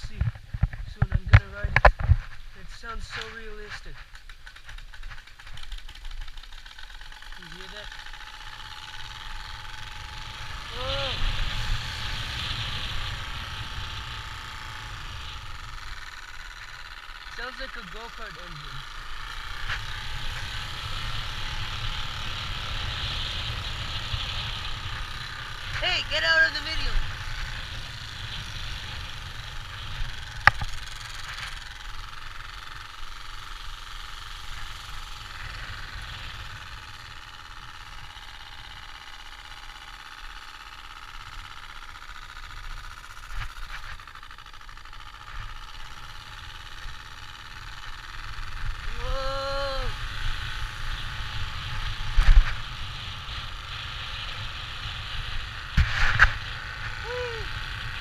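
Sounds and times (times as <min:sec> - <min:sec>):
card flapping against bicycle spokes: 0:00.0 - 0:25.8, 0:26.8 - 0:53.3, 0:55.3 - 0:58.0.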